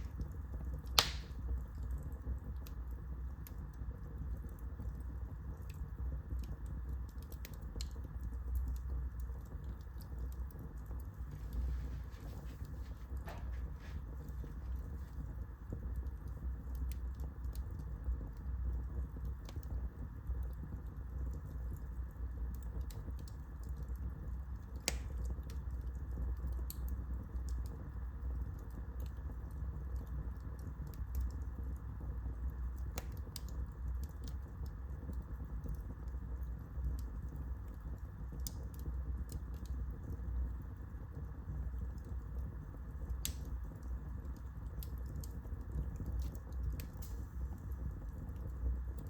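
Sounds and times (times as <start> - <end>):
fire crackling and popping: 0.0 - 49.0
fire flames rumbling: 0.0 - 49.0.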